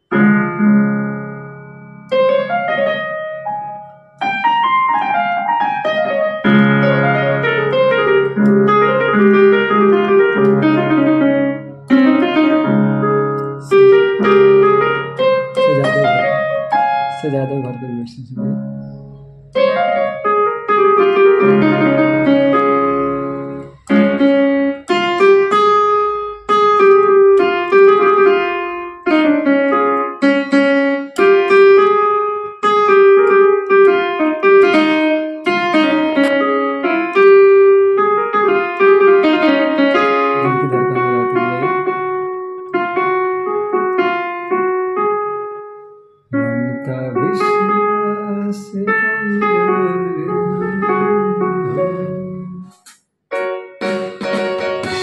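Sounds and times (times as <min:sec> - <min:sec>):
keyboard piano melody: 0:00.0 - 0:55.0.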